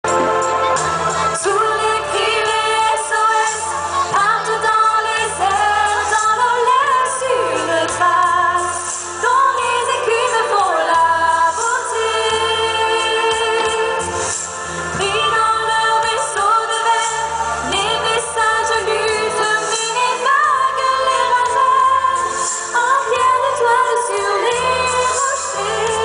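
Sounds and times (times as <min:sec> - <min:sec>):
amplified music accompaniment: 0:00.0 - 0:26.0
women singing into microphones: 0:00.1 - 0:26.0.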